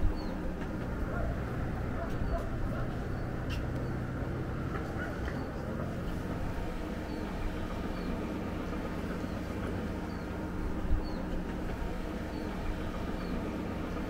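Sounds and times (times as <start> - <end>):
low rumbling outdoor noise: 0.0 - 14.0.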